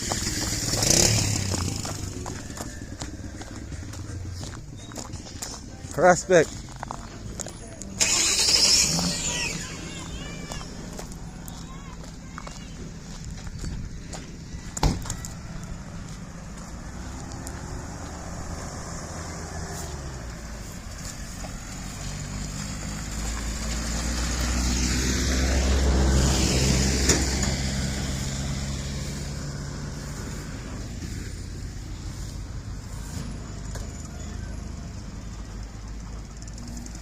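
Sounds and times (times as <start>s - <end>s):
vehicle engine passing by: 0.0s - 37.0s.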